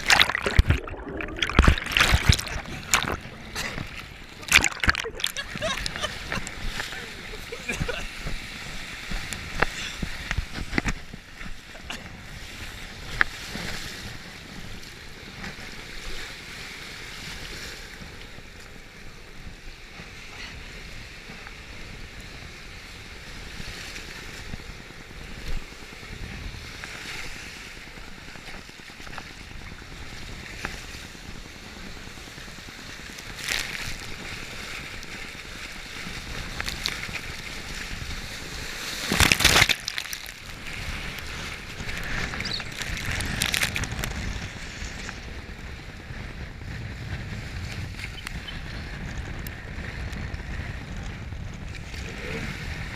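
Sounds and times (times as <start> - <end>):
water splashing against jet ski: 0.0 - 52.9
wind on microphone: 0.0 - 52.9.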